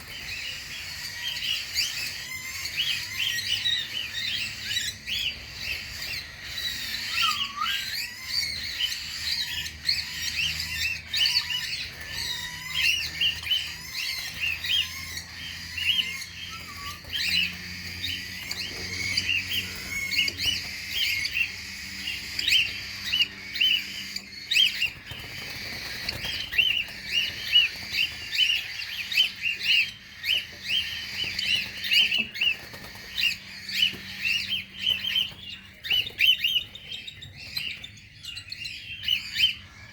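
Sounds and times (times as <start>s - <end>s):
cockatiels chirping: 0.0s - 39.9s.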